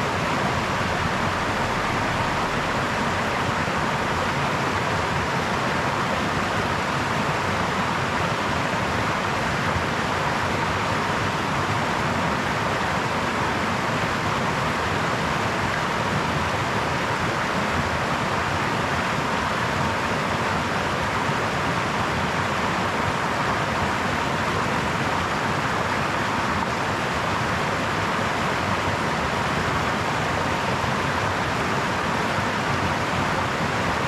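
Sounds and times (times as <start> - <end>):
brook water flowing over stones: 0.0 - 34.0.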